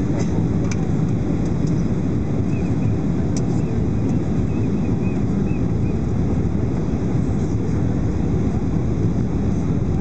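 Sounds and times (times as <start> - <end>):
jet engine roar in cabin: 0.0 - 10.0.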